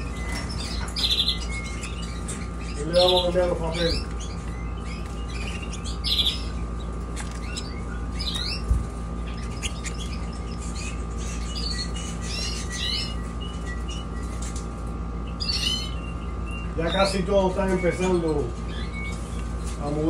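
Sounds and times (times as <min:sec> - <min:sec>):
canaries chirping: 0:00.0 - 0:20.0
steady background hum: 0:00.0 - 0:20.0.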